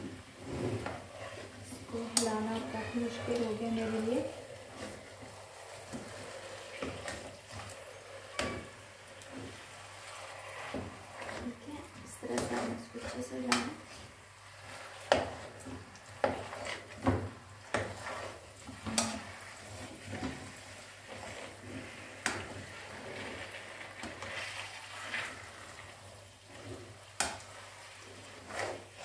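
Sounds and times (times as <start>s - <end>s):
soft sizzle of cooking: 0.0s - 29.0s
spatula scraping and knocking wok: 0.0s - 29.0s.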